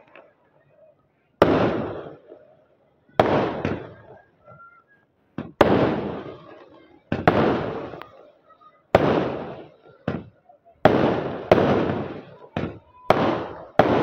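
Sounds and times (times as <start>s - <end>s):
fireworks bangs with crackle: 1.4s - 2.6s, 3.2s - 14.0s.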